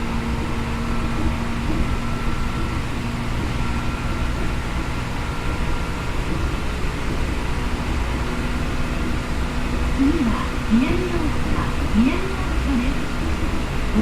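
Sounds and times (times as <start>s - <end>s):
faint steady equipment tones: 0.0s - 14.0s
train running gear rumbling on rails: 0.0s - 14.0s.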